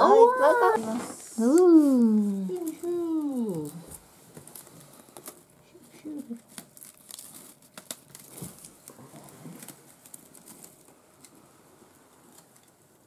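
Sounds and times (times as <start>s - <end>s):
wrapping paper rustling and crinkling: 0.6s - 13.0s.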